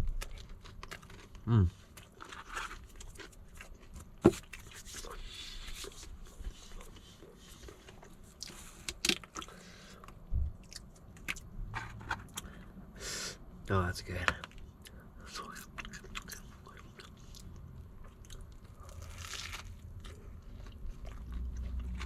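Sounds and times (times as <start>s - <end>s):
person chewing a sandwich: 0.0s - 12.9s, 14.4s - 22.0s.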